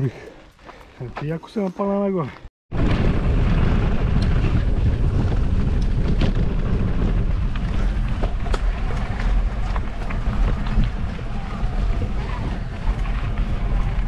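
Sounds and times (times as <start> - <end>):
bike rolling on dirt track: 2.3 - 14.0
wind rumbling on microphone: 2.7 - 14.0.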